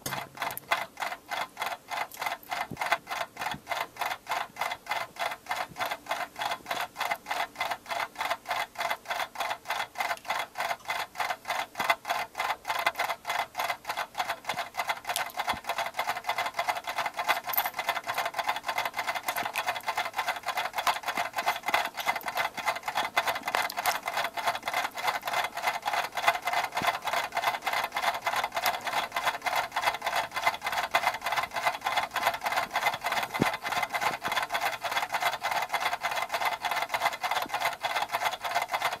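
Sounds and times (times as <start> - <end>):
clock ticking fast: 0.0 - 39.0.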